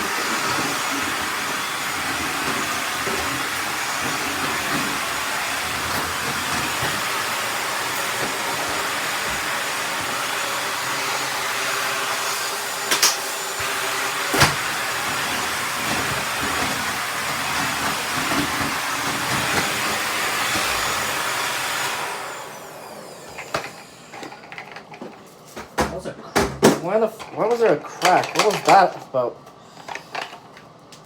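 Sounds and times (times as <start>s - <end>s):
stick vacuum running: 0.0s - 25.3s, 26.0s - 31.0s.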